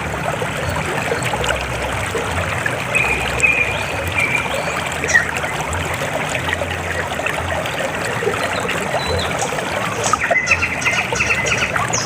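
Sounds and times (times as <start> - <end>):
river water babbling: 0.0 - 12.0.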